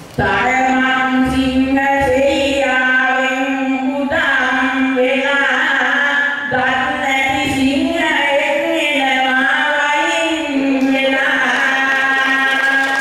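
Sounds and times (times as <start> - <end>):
woman singing into a microphone: 0.2 - 13.0.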